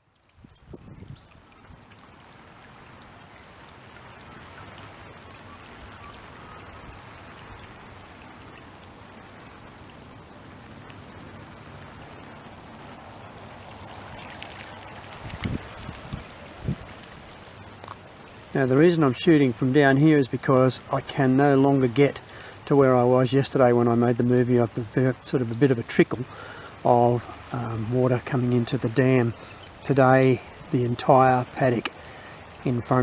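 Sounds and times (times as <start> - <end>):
running water and rain: 0.0 - 33.0.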